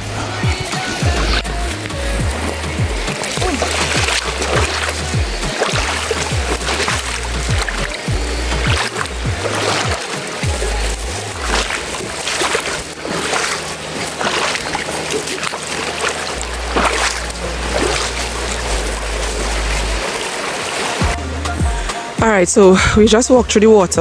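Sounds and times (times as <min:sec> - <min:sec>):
water splashing from wading: 0:00.0 - 0:22.4.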